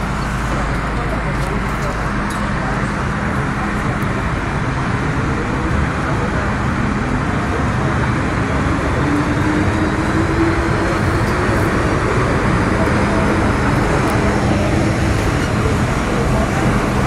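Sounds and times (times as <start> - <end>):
metro station rumble: 0.0 - 17.0
train running: 0.0 - 17.0.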